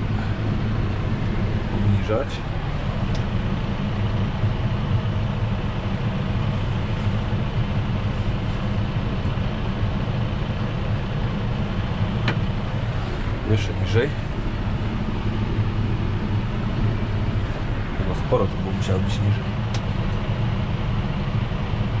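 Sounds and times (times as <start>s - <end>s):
tractor engine humming: 0.0s - 22.0s.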